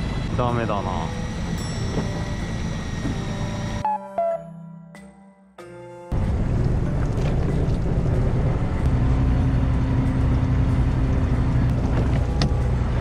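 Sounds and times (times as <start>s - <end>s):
boat engine humming: 0.0s - 4.4s, 6.1s - 13.0s.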